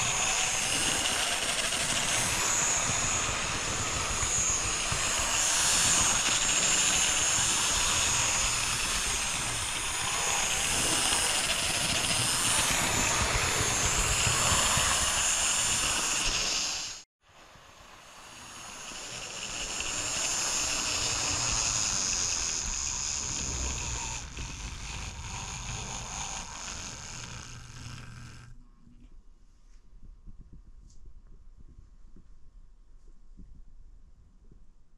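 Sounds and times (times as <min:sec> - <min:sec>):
model train whirring and rattling: 0:00.0 - 0:28.5.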